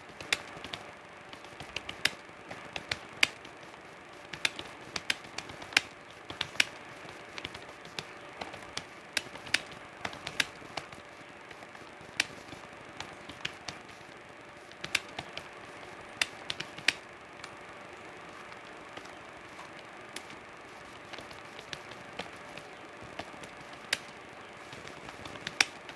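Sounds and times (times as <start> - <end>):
typing on computer keyboard: 0.0 - 17.0, 18.3 - 25.9.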